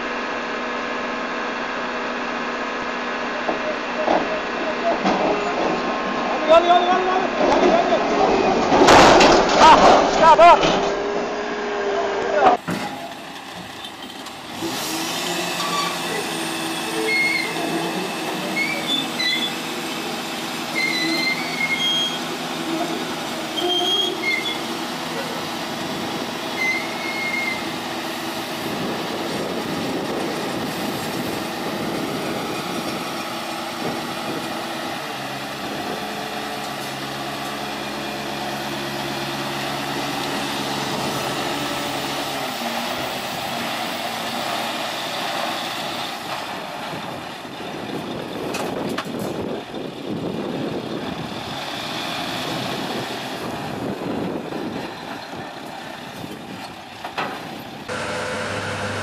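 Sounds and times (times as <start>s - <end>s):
truck engine running under load: 0.0s - 59.0s.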